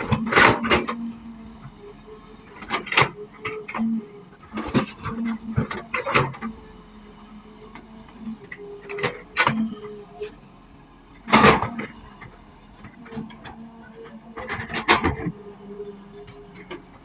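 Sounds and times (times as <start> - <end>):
excavator engine hum: 0.0 - 17.0.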